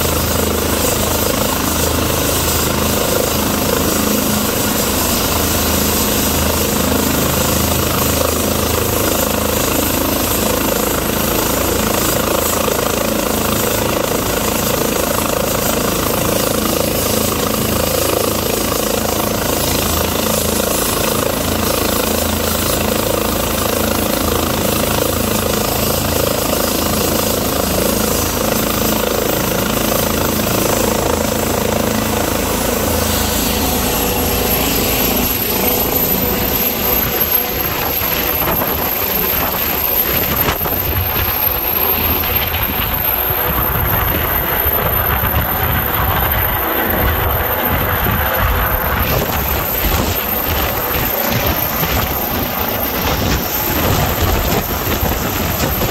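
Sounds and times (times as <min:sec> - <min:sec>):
helicopter turbine and rotors: 0:00.0 - 0:55.9.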